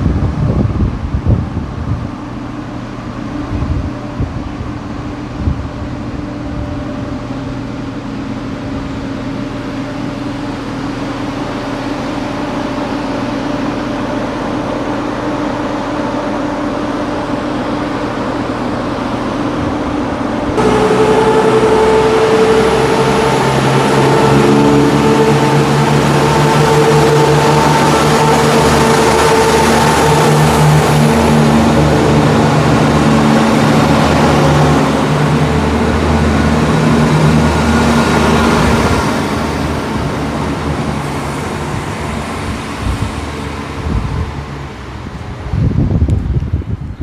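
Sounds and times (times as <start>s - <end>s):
higher-pitched engine drone: 0.0s - 46.0s
diesel train engine humming: 0.0s - 47.0s.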